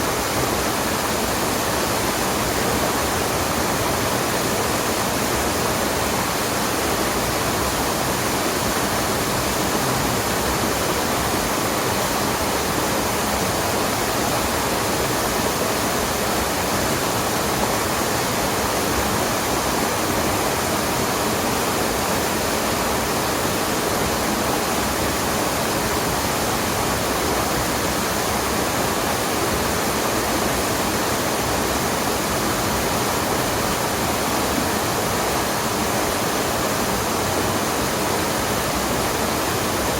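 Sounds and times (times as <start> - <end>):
waterfall and stream water rushing: 0.0 - 39.9.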